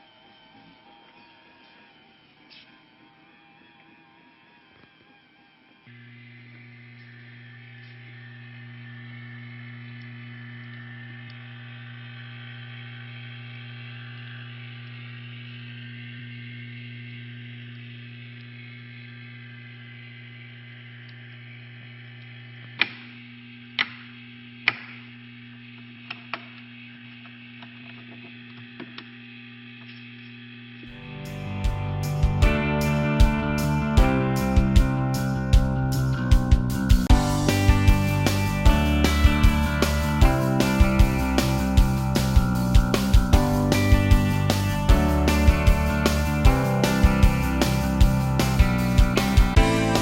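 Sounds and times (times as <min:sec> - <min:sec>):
machine humming: 0:00.0 - 0:50.0.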